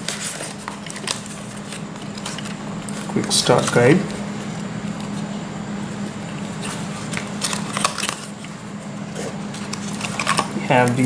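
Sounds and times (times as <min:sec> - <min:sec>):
paper and cardboard rustling: 0:00.0 - 0:05.4, 0:06.0 - 0:11.0
paper crackles: 0:00.0 - 0:11.0.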